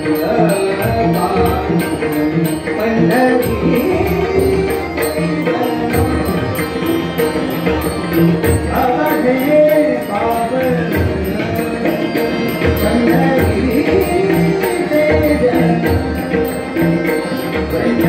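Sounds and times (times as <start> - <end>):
man singing devotional song: 0.0 - 7.4, 8.1 - 18.0
harmonium: 0.0 - 18.0
tabla: 0.0 - 18.0.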